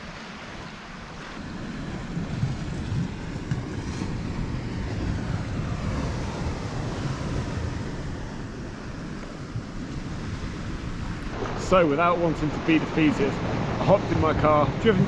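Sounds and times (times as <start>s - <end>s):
waves washing on shore: 0.0s - 15.0s
wind rumbling on microphone: 0.0s - 15.0s.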